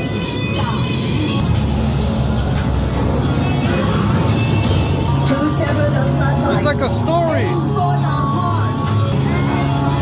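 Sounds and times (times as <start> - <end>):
eerie soundtrack music: 0.0 - 10.0.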